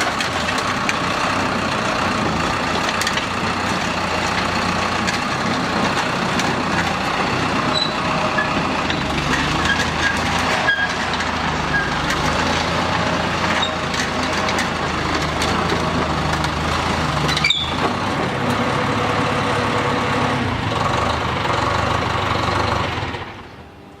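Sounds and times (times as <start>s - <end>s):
pile driver running: 0.0s - 23.4s.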